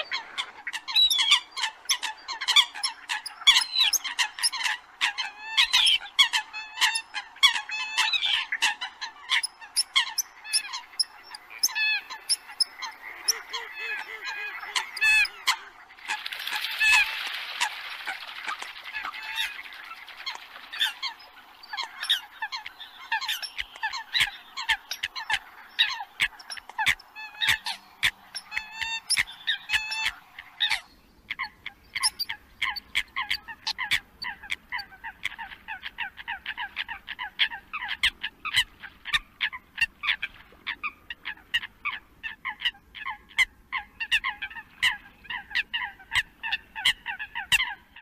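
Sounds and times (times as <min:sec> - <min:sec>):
coots honking calls: 0:00.0 - 0:40.2.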